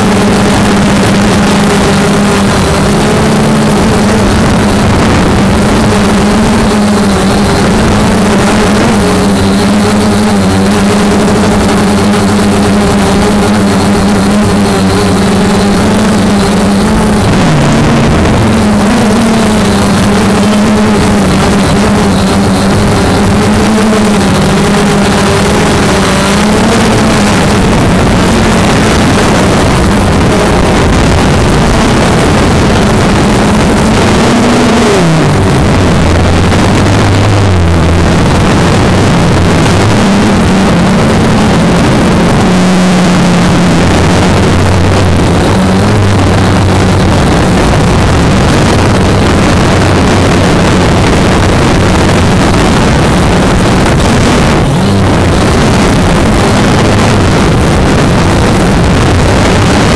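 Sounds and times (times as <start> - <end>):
motor running: 0.0 - 59.9.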